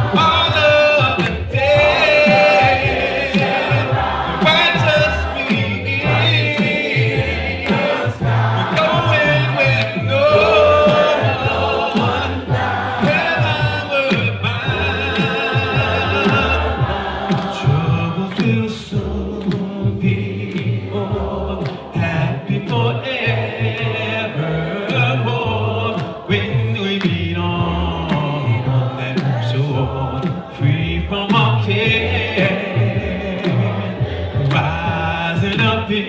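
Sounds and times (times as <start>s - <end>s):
congregation singing a hymn: 0.0s - 36.0s.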